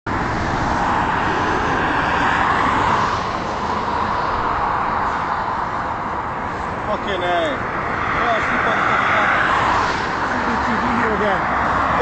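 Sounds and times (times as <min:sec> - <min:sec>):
tyre hiss of passing vehicles: 0:00.1 - 0:12.0
wind rumbling on microphone: 0:00.1 - 0:12.0.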